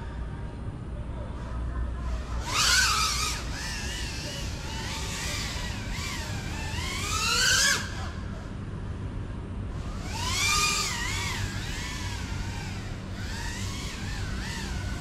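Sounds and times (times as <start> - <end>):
drone motors whining: 1.9 - 15.0.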